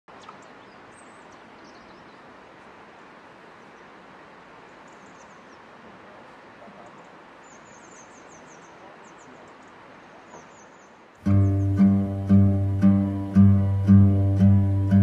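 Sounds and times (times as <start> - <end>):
small birds chirping faintly: 0.1 - 15.0
steady hiss: 0.4 - 15.0.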